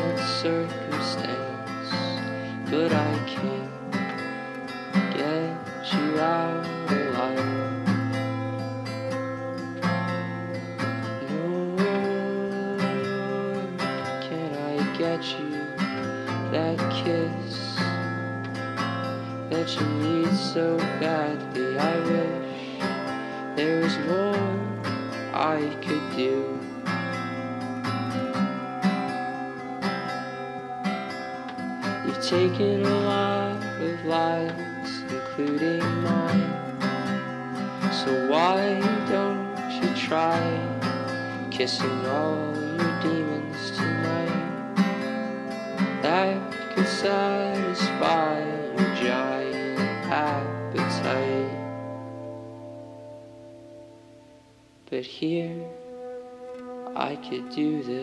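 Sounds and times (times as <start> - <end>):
acoustic guitar plucked and strummed: 0.0 - 58.0.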